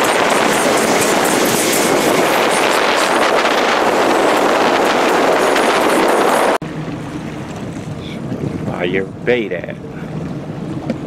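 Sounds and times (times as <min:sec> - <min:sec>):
boat engine: 0:00.0 - 0:11.0
water noise: 0:00.0 - 0:11.0
wind buffeting microphone: 0:00.0 - 0:11.0.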